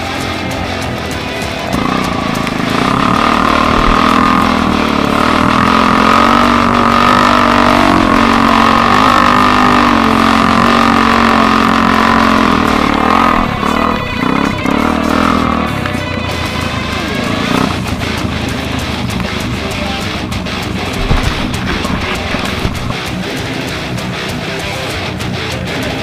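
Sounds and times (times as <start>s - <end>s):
atv engine droning: 0.0s - 26.0s.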